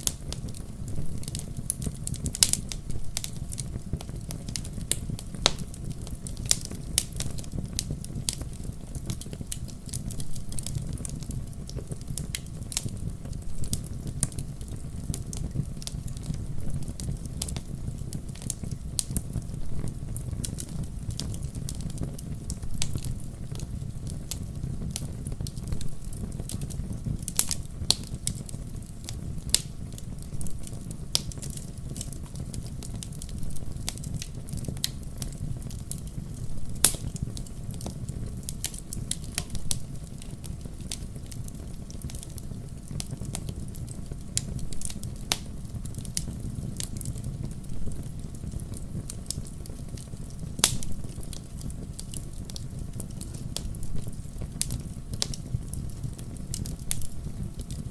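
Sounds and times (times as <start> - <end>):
fire crackling and popping: 0.0 - 57.9
loud snaps of fire: 0.0 - 57.9
low rumble of flames: 0.0 - 57.9.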